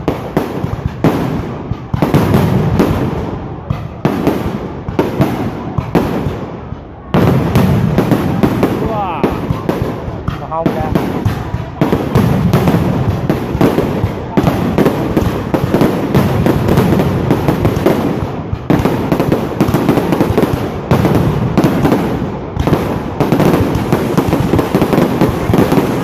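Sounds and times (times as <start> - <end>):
fireworks crackling bangs: 0.0 - 26.0.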